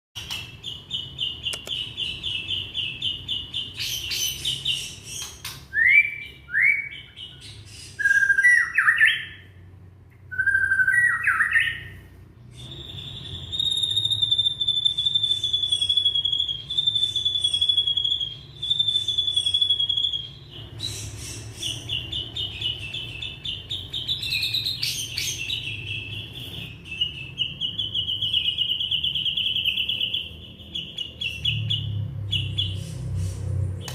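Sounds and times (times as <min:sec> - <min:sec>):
songbird singing trills and whistles: 0:00.2 - 0:09.6, 0:10.2 - 0:33.9.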